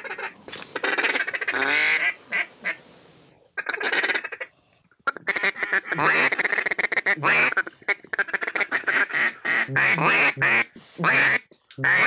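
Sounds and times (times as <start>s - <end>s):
duck call clucking: 0.0s - 2.8s, 3.6s - 4.5s, 5.1s - 12.0s
duck call quacks: 0.0s - 2.8s, 3.6s - 4.5s, 5.1s - 12.0s.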